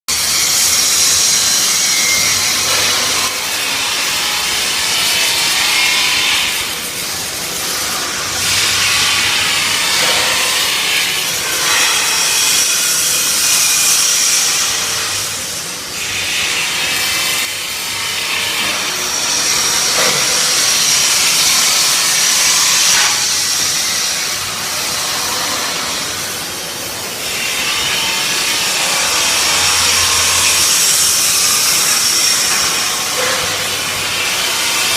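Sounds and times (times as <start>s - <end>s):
welder arc crackling and hissing: 0.1s - 34.9s.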